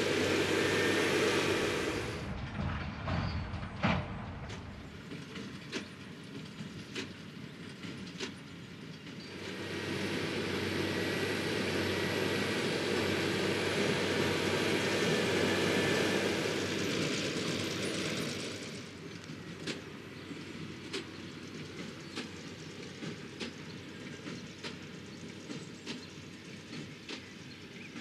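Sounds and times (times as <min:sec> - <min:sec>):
tractor and baler running: 0:00.0 - 0:28.0.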